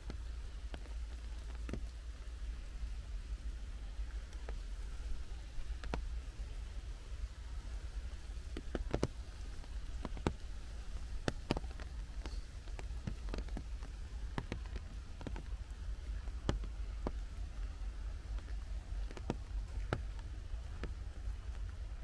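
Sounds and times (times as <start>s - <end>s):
rain hissing in forest: 0.0s - 22.0s
raindrops landing close by: 0.0s - 22.0s.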